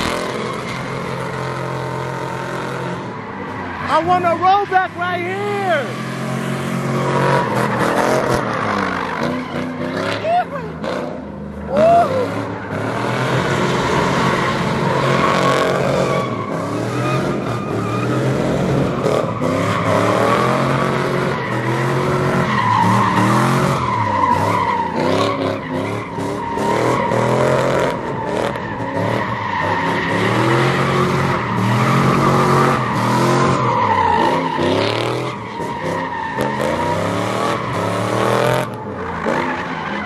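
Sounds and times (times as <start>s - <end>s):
pickup engine revving: 0.0s - 40.0s
tyres squealing on asphalt: 0.0s - 40.0s.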